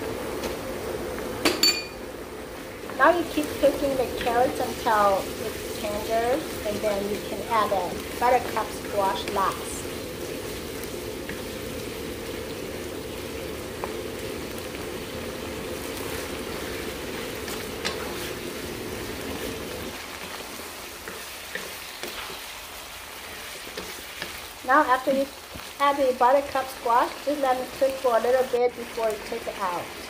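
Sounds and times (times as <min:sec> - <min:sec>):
curry simmering and sizzling: 0:00.0 - 0:30.0
spatula stirring in a wok: 0:02.8 - 0:30.0.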